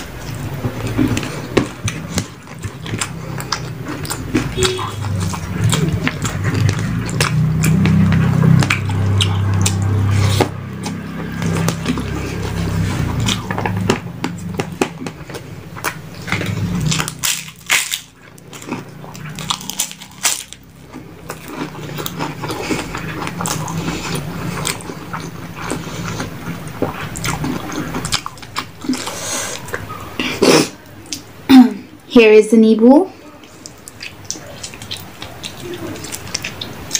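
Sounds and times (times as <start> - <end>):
person chewing crisp food: 0.0 - 31.3, 33.2 - 36.9.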